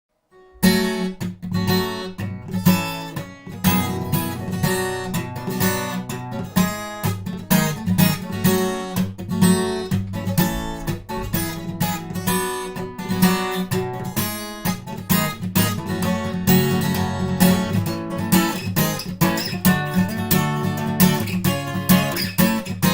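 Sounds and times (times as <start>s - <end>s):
guitar chords strummed: 0.4s - 22.9s.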